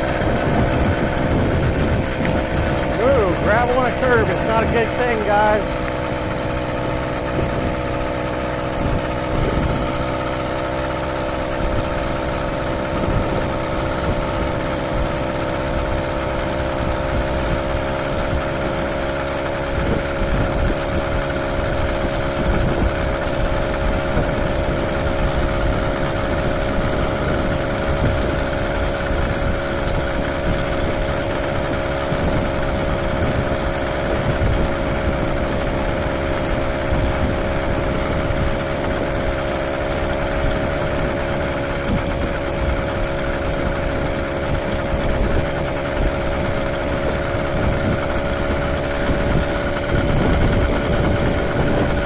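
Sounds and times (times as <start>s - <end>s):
small engine running steadily: 0.0s - 52.0s.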